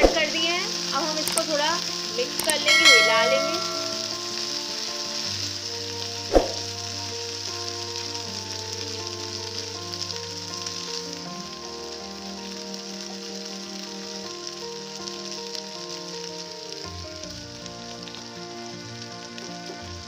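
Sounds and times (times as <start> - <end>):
peas sizzling in oil: 0.0 - 20.0.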